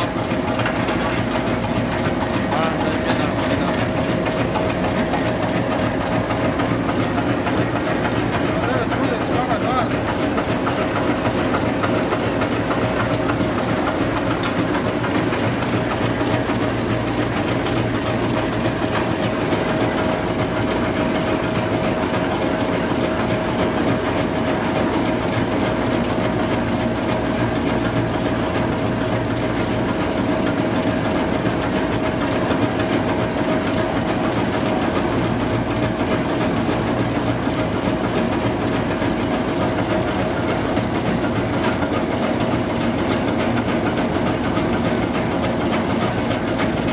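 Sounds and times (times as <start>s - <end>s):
machine motor humming: 0.0s - 46.9s.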